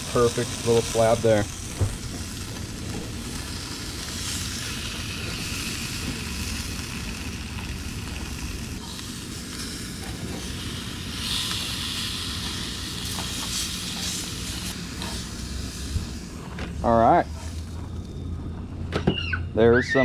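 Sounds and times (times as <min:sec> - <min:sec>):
fish sizzling in frying pan: 0:00.0 - 0:17.7.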